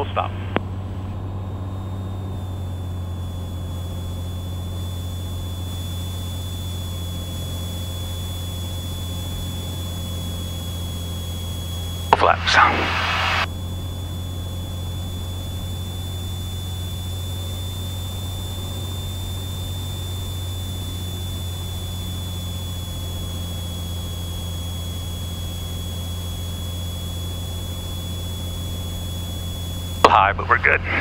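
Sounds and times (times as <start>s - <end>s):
aircraft engine and propeller droning: 0.0s - 31.0s
high-pitched whine: 0.0s - 31.0s.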